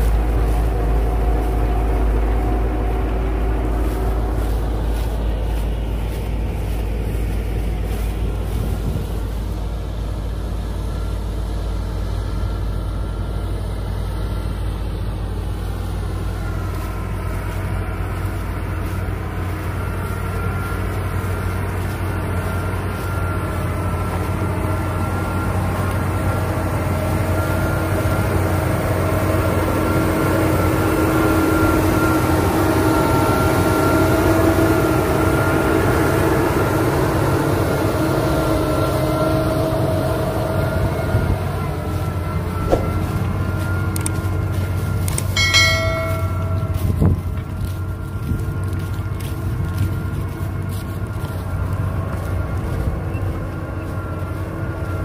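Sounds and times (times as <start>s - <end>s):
diesel tractor engine under load: 0.0s - 55.0s
steady whine: 0.0s - 55.0s.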